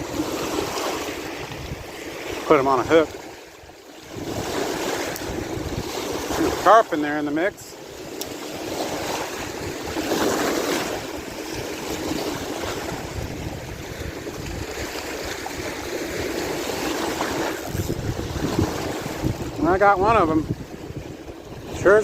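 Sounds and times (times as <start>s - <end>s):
wind buffeting microphone: 0.0s - 3.4s, 4.0s - 7.2s, 7.8s - 22.0s
lake waves lapping: 0.0s - 22.0s.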